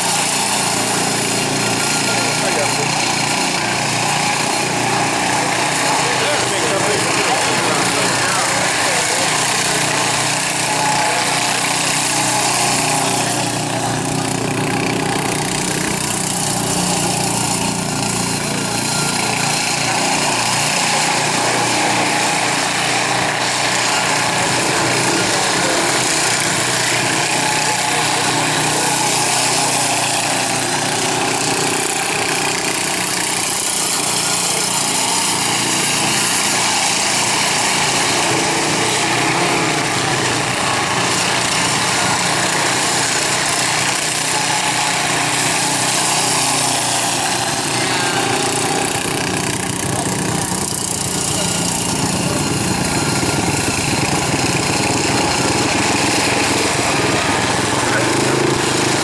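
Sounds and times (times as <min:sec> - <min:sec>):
lawn mower engine running hard: 0:00.0 - 0:59.0.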